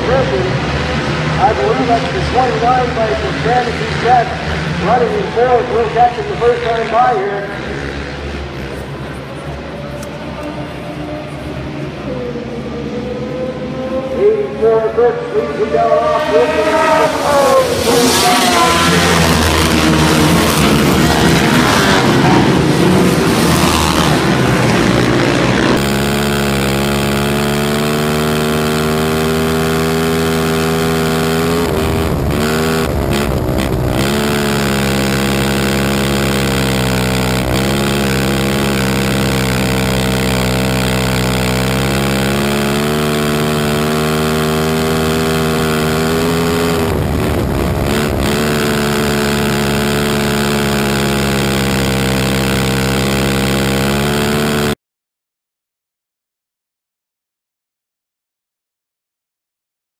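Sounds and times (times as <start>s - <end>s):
quad engine at racing speed: 0.0s - 54.8s.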